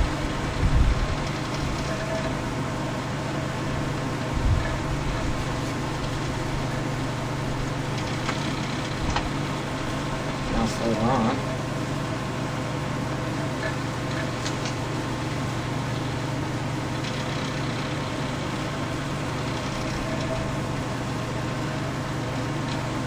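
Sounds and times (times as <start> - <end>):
rush of air from fan blades: 0.0 - 23.0
table fan motor hum: 0.0 - 23.0.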